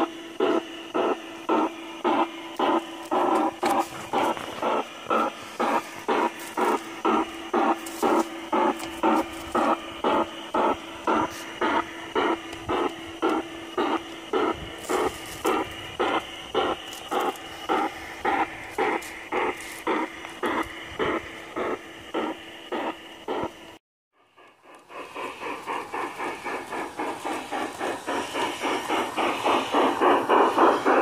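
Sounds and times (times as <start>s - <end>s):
model steam locomotive chuffing: 0.0s - 31.0s
steady hum: 0.0s - 31.0s.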